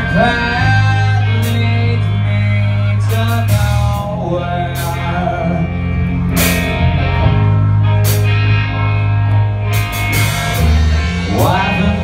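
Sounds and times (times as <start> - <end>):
bass guitar: 0.0 - 12.0
drum kit: 0.0 - 12.0
electric guitars: 0.0 - 12.0.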